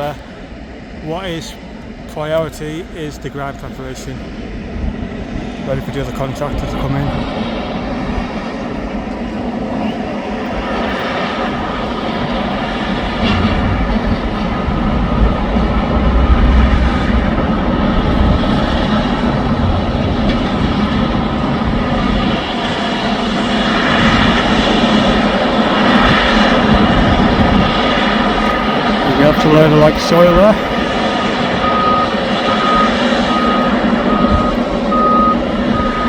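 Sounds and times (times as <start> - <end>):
heavy machinery diesel engines: 0.0 - 36.0.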